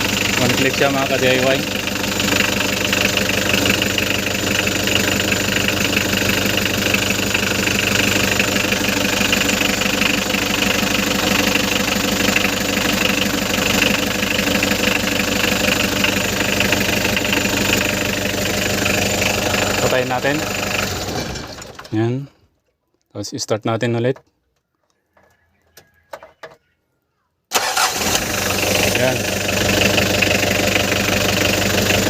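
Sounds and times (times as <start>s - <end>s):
van engine idling: 0.0s - 21.8s, 27.6s - 32.0s.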